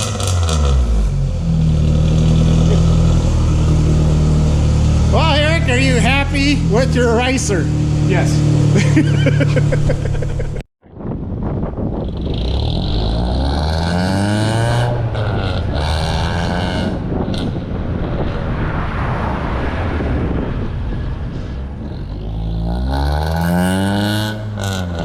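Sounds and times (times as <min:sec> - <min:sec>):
car engine revving: 0:00.0 - 0:10.6, 0:12.0 - 0:25.0.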